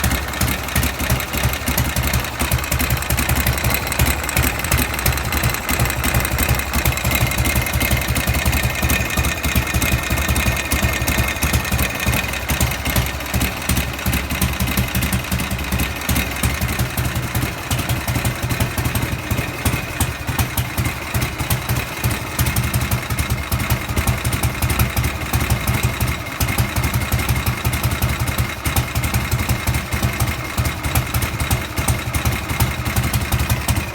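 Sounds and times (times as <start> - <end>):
motorcycle engine idling: 0.0 - 33.9
rapid engine ticking: 0.0 - 33.9.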